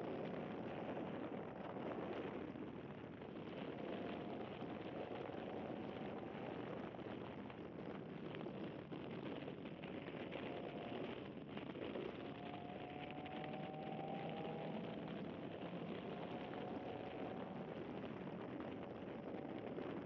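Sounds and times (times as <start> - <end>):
tyre road noise: 0.0 - 20.0
wind noise: 0.0 - 20.0
faint car engine: 0.1 - 7.6, 8.8 - 20.0.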